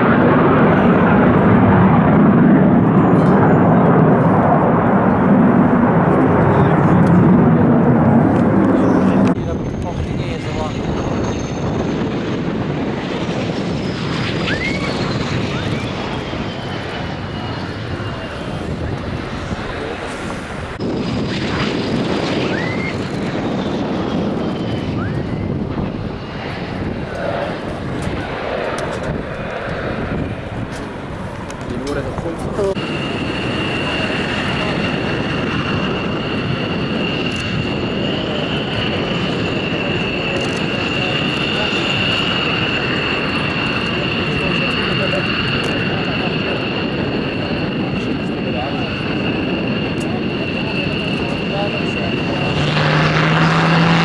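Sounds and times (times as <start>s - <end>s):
aircraft engine rumble: 0.0s - 54.0s.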